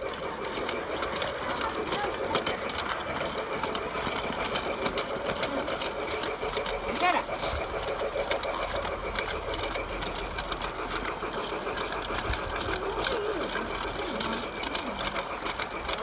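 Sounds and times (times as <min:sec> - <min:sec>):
small machine rattling: 0:00.0 - 0:16.0.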